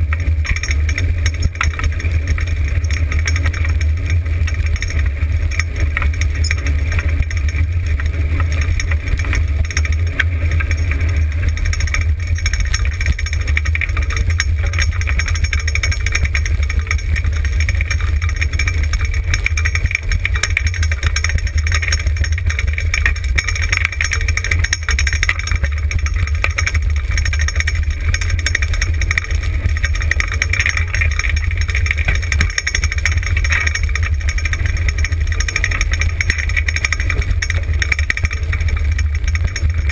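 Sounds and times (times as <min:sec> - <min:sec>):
sled rig rattling over dirt: 0:00.0 - 0:39.9.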